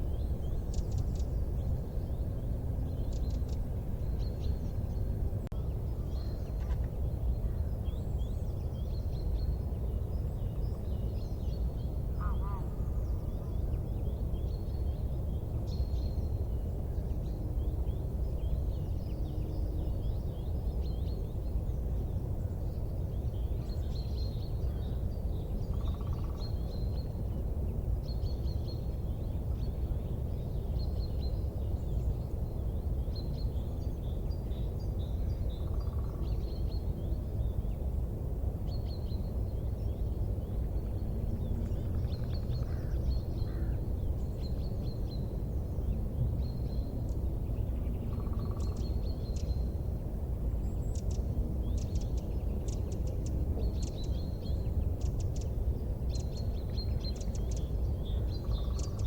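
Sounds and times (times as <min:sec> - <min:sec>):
small birds chirping: 0:00.0 - 0:38.0, 0:38.6 - 0:59.0
steady low rumble: 0:00.0 - 0:59.0.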